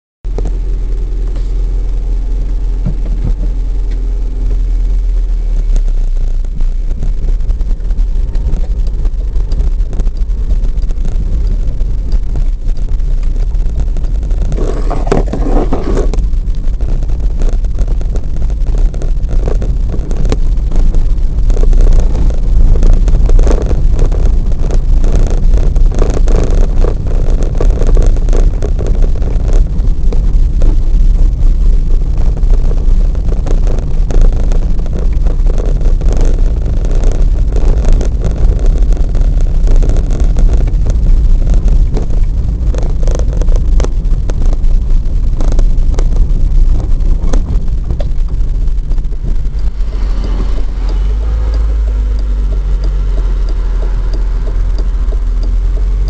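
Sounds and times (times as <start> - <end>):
car engine hum: 0.2 - 56.0
tyres rumbling on cobblestones: 0.2 - 56.0.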